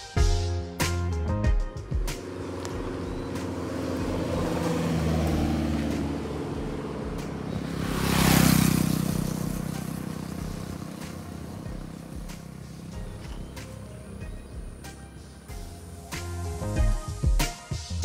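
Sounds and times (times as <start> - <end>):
vehicle passing by: 2.0 - 16.8.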